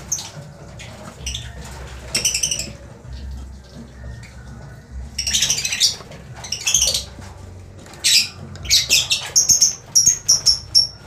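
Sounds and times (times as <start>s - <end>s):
lovebirds squawking: 0.0s - 3.0s, 5.0s - 11.0s.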